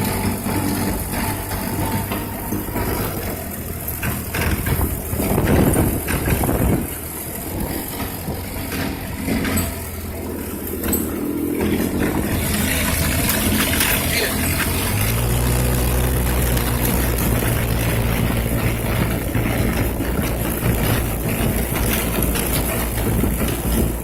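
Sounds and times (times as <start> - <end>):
quad bike engine running: 0.0 - 24.0.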